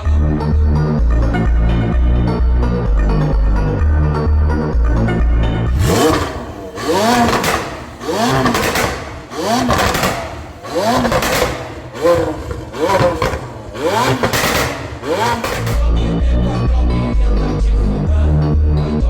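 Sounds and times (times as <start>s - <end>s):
car engine revving: 0.0s - 18.8s
exhaust crackling: 1.2s - 18.2s.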